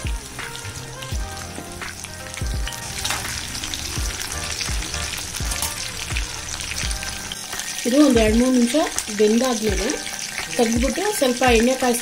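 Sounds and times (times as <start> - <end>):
background music with beat: 0.0 - 8.5, 9.7 - 11.7
oil sizzling deep-frying: 0.0 - 12.0.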